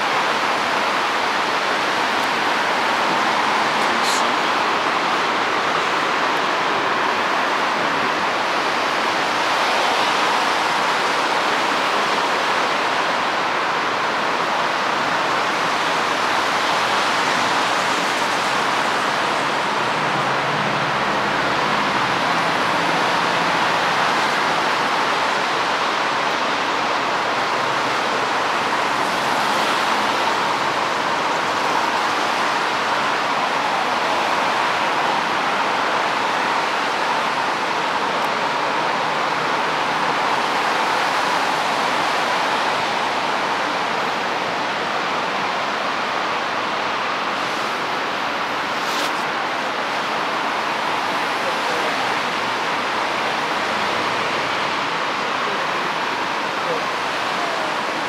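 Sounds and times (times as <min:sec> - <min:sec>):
road traffic roar: 0:00.0 - 0:58.0.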